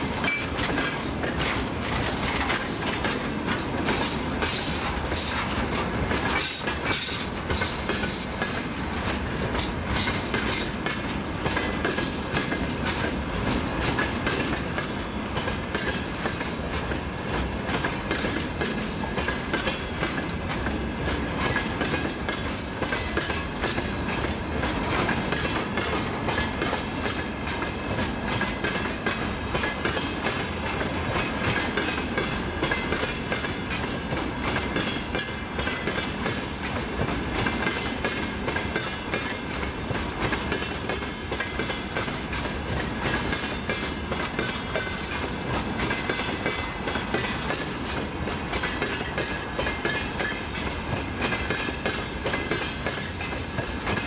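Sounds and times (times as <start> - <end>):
train wagons rumbling past: 0.0 - 54.0.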